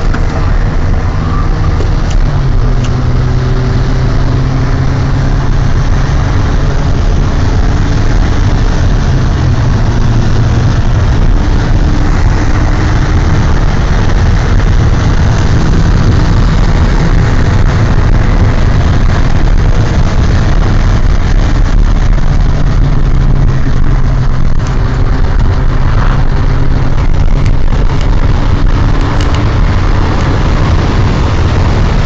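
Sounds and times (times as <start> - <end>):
car engine under load: 0.0 - 32.0
road and wind noise: 0.0 - 32.0.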